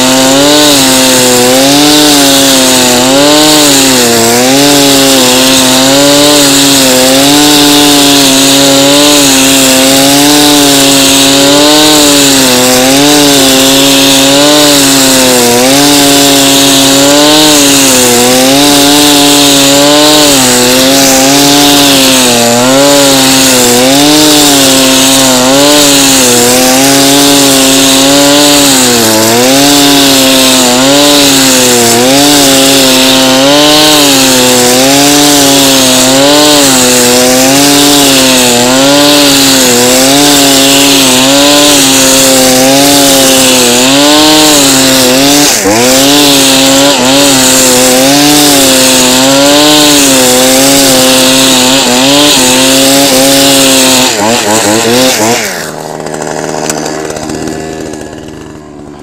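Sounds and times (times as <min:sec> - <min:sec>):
brush cutter engine at high revs: 0:00.0 - 0:59.0.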